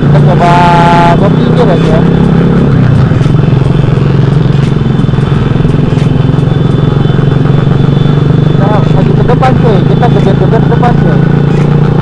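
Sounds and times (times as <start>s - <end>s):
loud motorcycle engine running: 0.0s - 12.0s.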